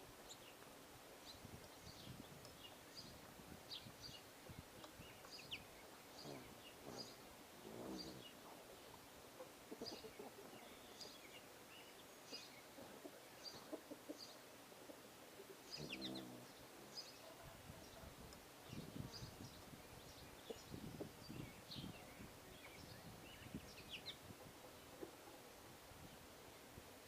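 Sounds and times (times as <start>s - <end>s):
small birds chirping: 0.0s - 26.8s.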